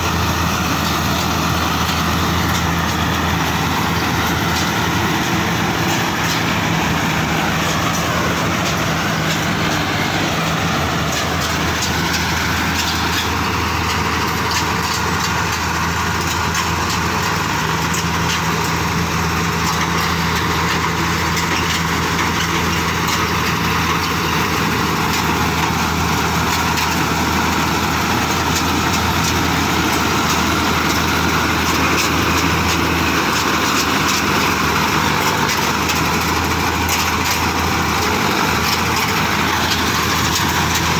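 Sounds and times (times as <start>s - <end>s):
diesel engine drone: 0.0s - 40.9s
threshing machinery rattling: 0.0s - 40.9s.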